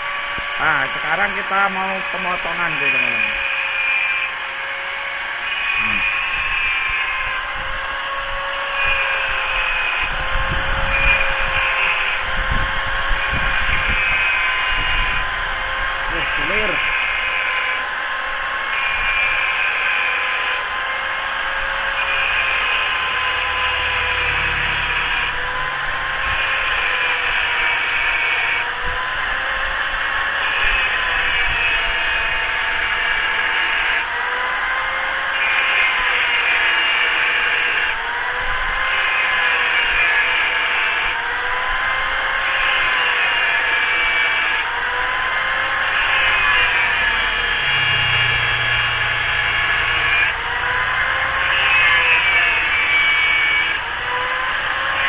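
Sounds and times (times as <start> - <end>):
angle grinder cutting metal: 0.0 - 55.0.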